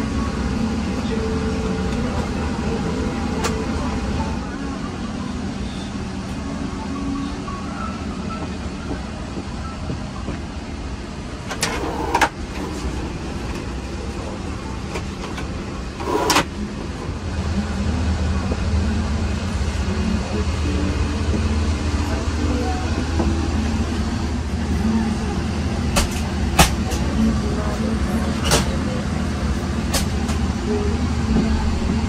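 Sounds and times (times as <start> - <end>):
cabin ventilation drone: 0.0 - 32.0.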